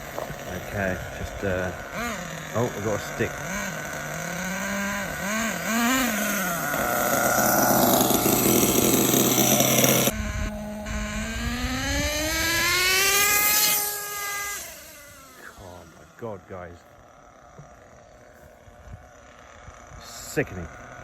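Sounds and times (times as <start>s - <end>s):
model engine revving at full throttle: 0.0s - 21.0s.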